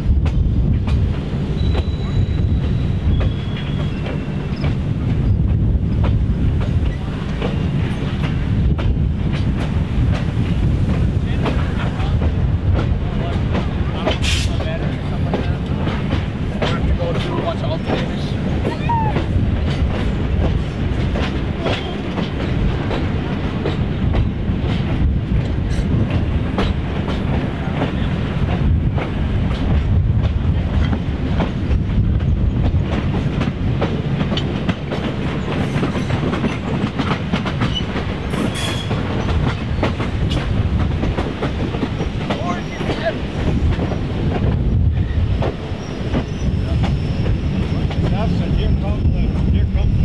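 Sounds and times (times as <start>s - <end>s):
train rolling on track: 0.0s - 50.0s
wheels clicking over rail joints: 3.1s - 44.6s.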